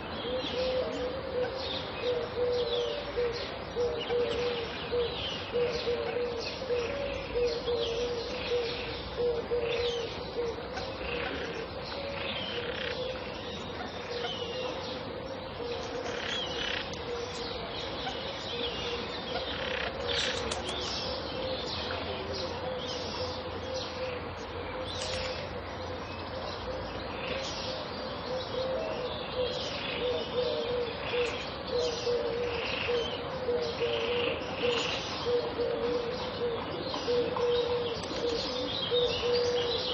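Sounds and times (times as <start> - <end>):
birds chirping and calling: 0.0 - 39.9
doves cooing: 0.0 - 39.9.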